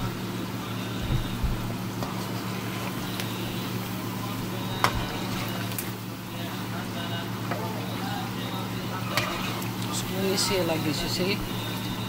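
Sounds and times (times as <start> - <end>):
low steady hum: 0.0 - 12.0
oil sizzling and bubbling: 0.0 - 12.0.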